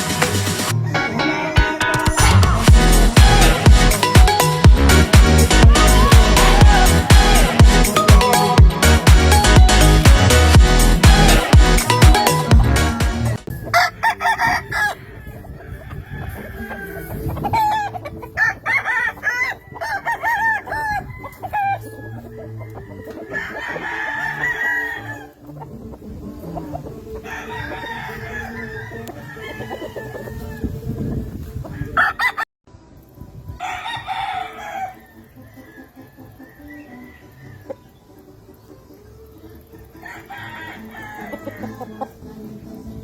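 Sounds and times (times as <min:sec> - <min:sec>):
roosters crowing: 0:00.0 - 0:32.5, 0:33.5 - 0:38.3, 0:39.2 - 0:43.0
roosters clucking: 0:00.0 - 0:43.0.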